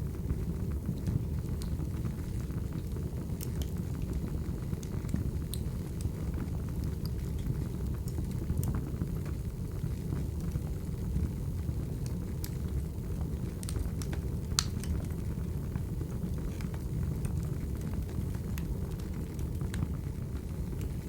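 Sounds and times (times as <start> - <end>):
burning logs rumbling: 0.0 - 21.0
wood fire crackling: 0.0 - 21.0.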